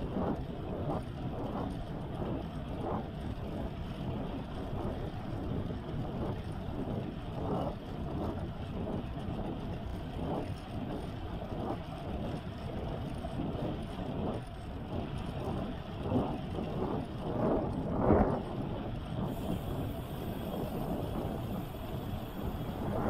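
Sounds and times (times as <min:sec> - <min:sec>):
rolling tyres: 0:00.0 - 0:23.0
wind on microphone: 0:00.0 - 0:23.0.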